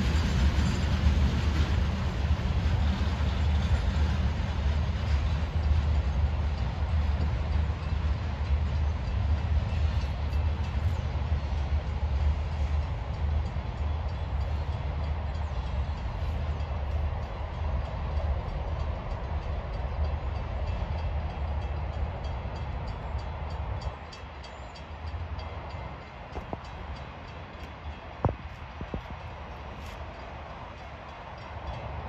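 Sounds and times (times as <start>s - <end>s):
freight train rumbling on tracks: 0.0s - 32.0s.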